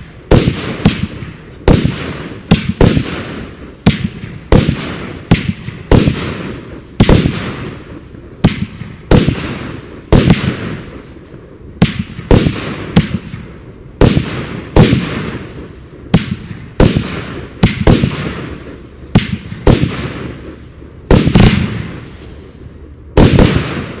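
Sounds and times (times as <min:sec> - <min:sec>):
firework booms with echo: 0:00.0 - 0:24.0.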